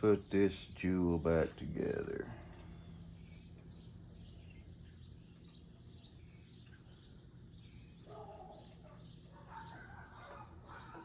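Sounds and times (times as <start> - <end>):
faint birds chirping: 0.0 - 11.0
low steady hum: 0.0 - 11.0.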